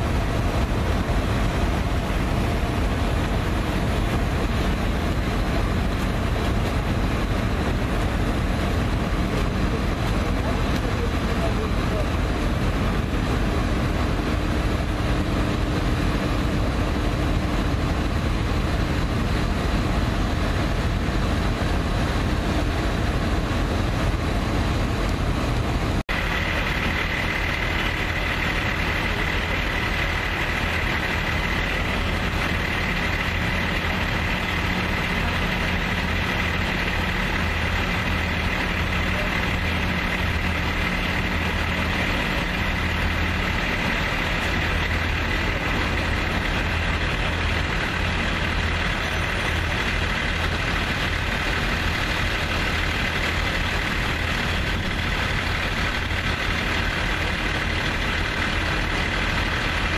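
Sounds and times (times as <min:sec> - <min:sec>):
diesel engines running: 0:00.0 - 0:59.9
steady high whine: 0:00.0 - 0:59.9.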